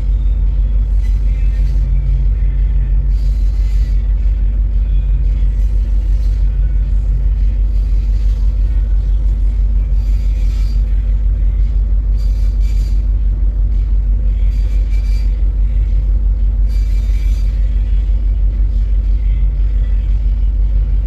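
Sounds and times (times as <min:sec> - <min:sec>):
ship engine rumble and hum: 0:00.0 - 0:21.0.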